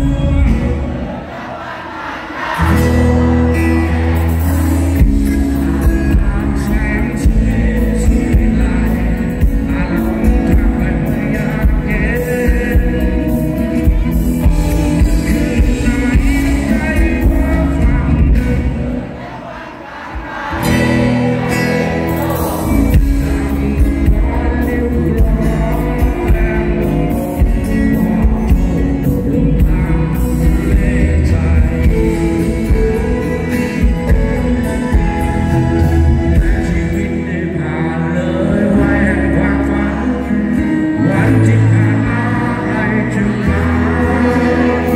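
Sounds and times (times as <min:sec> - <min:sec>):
live rock band playing: 0:00.0 - 0:01.2, 0:02.4 - 0:19.2, 0:20.4 - 0:44.9
man singing lead vocal: 0:00.0 - 0:44.9.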